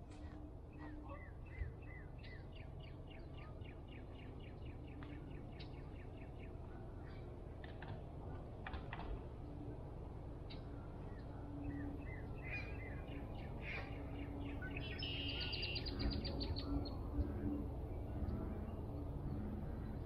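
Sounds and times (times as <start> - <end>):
low background rumble: 0.0 - 20.0
songbird singing: 0.1 - 8.5, 9.4 - 20.0.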